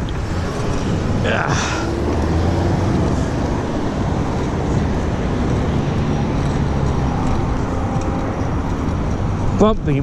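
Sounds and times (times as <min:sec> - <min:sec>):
car engines humming: 0:00.0 - 0:10.0
wind and road noise: 0:00.0 - 0:10.0.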